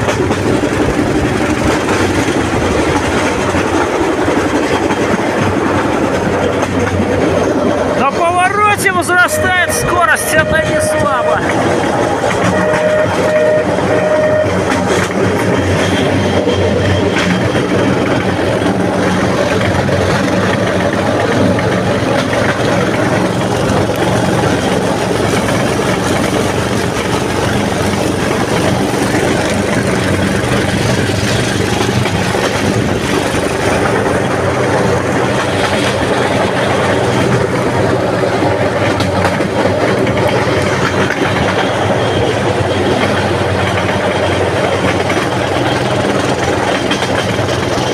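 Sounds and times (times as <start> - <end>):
engine drone: 0.0 - 47.9
wheels rumbling over rails: 0.0 - 47.9.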